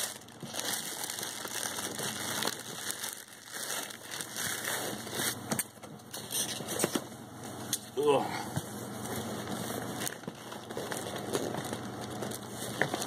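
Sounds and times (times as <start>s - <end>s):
packing material rustling: 0.0s - 6.9s, 8.9s - 13.0s.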